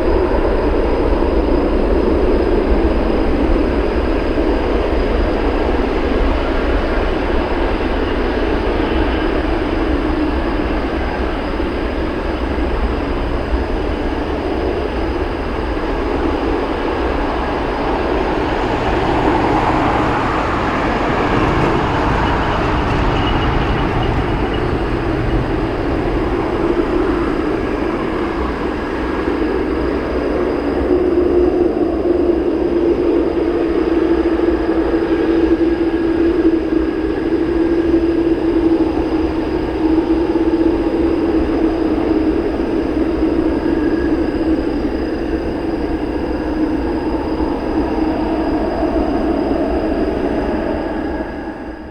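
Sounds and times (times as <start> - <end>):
jet airliner engines running: 0.0 - 51.9.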